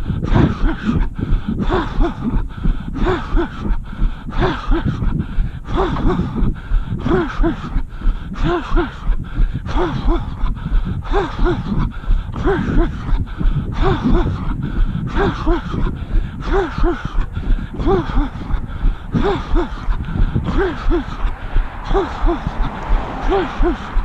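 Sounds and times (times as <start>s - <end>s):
person breathing hard: 0.0s - 24.0s.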